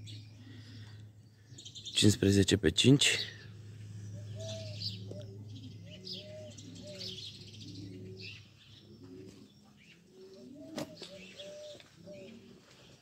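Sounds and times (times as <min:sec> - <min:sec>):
pigeons cooing: 0:00.0 - 0:02.0, 0:03.0 - 0:13.0
steady low hum: 0:00.0 - 0:10.6
small birds chirping: 0:00.0 - 0:13.0.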